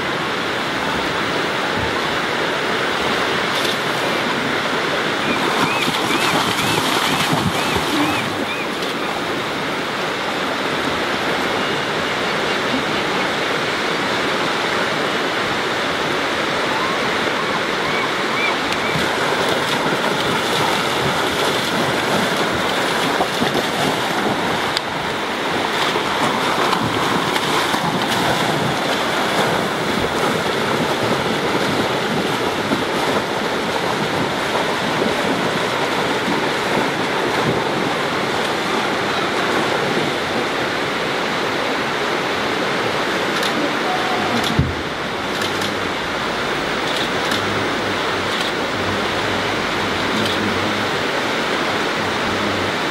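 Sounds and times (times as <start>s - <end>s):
river rushing over gravel: 0.0s - 52.9s
bear splashing through water: 2.7s - 14.4s, 16.6s - 41.1s, 42.6s - 52.9s.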